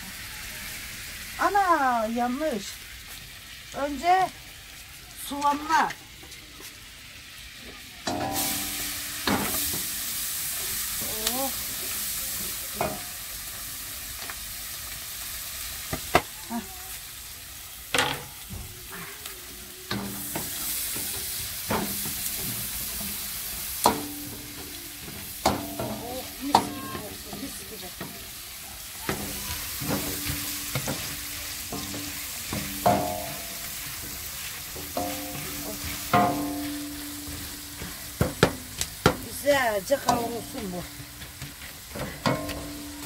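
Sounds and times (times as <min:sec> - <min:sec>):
mushrooms sizzling in butter: 0:00.0 - 0:43.0.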